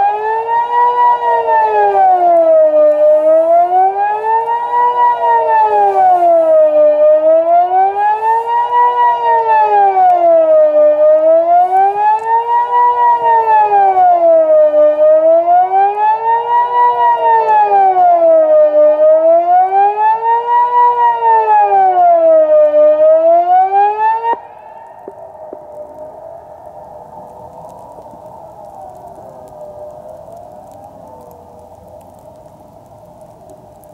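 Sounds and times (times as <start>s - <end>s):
civil defence siren wailing: 0.0s - 33.9s.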